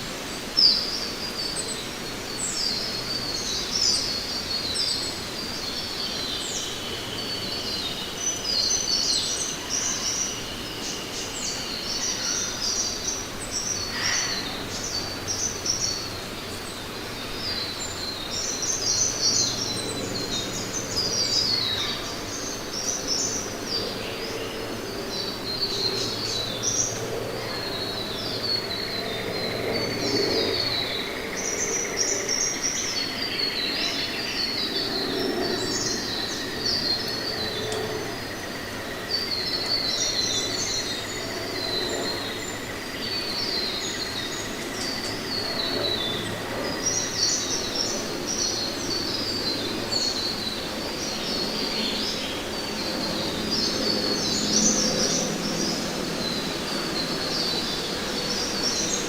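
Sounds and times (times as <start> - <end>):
songbirds chirping and twittering: 0.0 - 59.0
steady high whine: 0.0 - 59.0.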